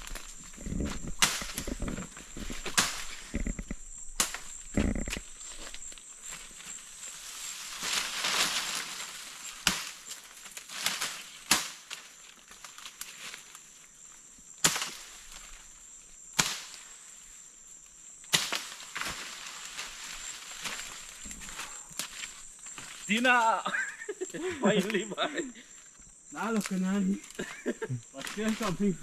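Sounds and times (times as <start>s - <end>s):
leaves rustling: 0.0s - 29.0s.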